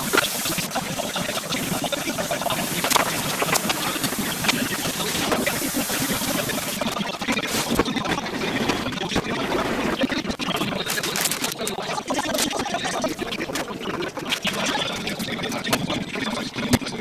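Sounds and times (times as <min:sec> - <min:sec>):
kitchen background hiss and hum: 0:00.0 - 0:17.0.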